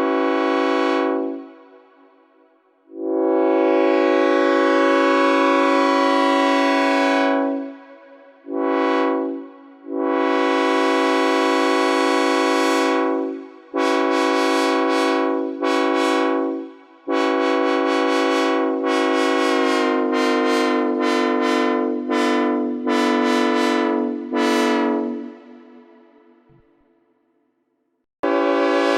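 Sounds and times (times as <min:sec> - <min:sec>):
locomotive air horn blasts: 0:00.0 - 0:26.6, 0:28.2 - 0:28.9.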